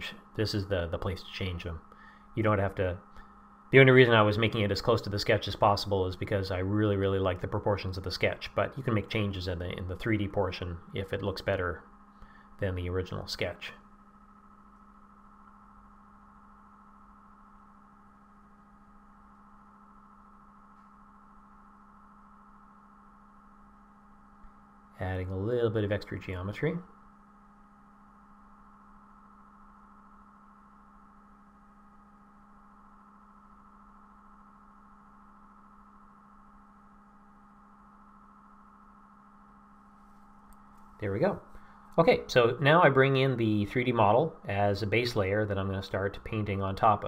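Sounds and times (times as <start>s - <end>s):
low hum: 0.0s - 47.0s
thin high whine: 0.0s - 47.0s.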